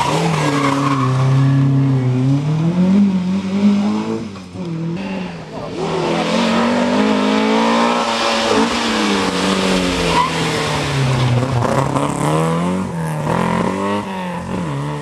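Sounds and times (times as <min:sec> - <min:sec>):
rally car engine passing: 0:00.0 - 0:15.0.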